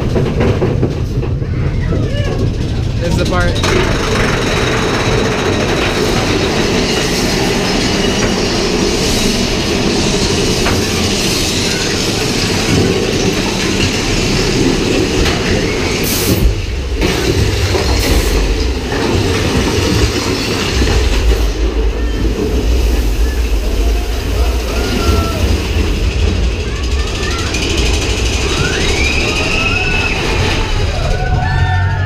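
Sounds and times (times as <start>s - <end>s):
ride train clattering on track: 0.0s - 32.0s.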